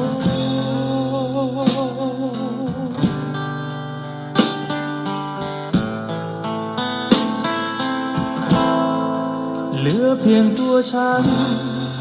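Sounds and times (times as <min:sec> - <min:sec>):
guitar music through speaker: 0:00.0 - 0:12.0
plucked guitar notes: 0:00.0 - 0:12.0
steady bass: 0:00.0 - 0:12.0.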